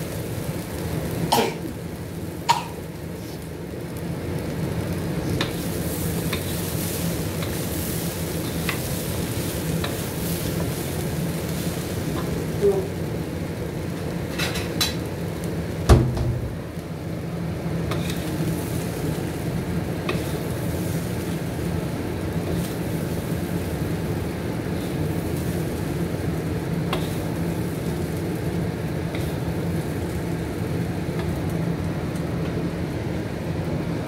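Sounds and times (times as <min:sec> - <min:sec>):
chickpeas sizzling in a wok: 0:00.0 - 0:34.0.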